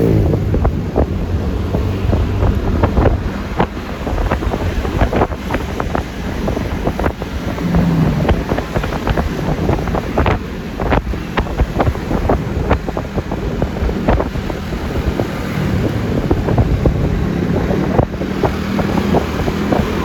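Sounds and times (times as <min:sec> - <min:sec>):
engine and road rumble: 0:00.0 - 0:20.0
wind buffeting microphone: 0:00.0 - 0:20.0.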